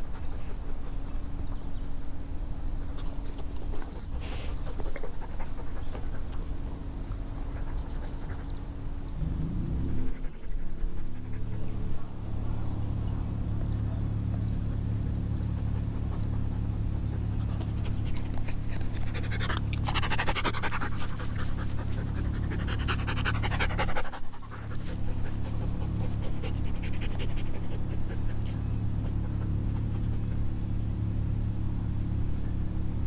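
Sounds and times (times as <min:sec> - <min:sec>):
dog panting: 0:00.0 - 0:01.8, 0:03.0 - 0:09.0, 0:09.6 - 0:12.5, 0:13.5 - 0:30.6
low steady hum: 0:00.0 - 0:33.0.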